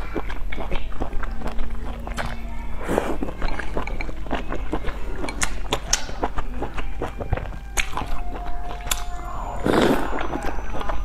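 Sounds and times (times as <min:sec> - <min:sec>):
slurping and chewing: 0:00.0 - 0:11.0.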